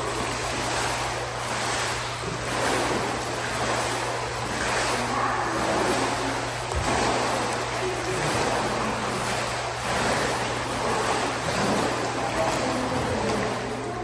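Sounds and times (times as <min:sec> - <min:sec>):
steady low hum: 0:00.0 - 0:14.0
water splashing in a pool: 0:00.0 - 0:14.0.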